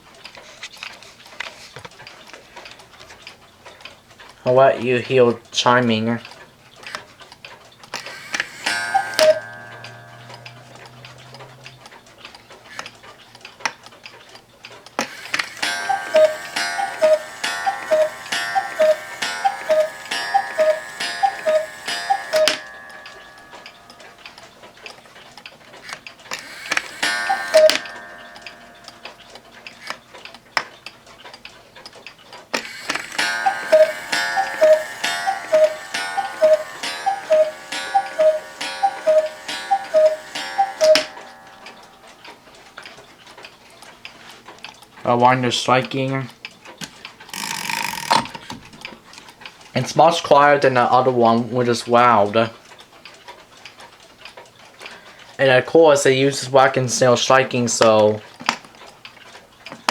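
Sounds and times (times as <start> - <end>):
clock mechanism clicks: 0.0 - 59.9
cuckoo clock calls: 4.5 - 13.2, 15.0 - 31.1, 32.4 - 58.5.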